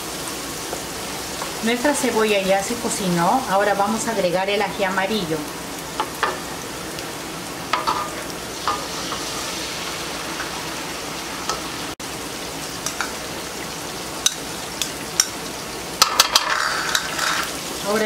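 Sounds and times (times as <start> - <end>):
onion frying in a wok: 0.0 - 18.0.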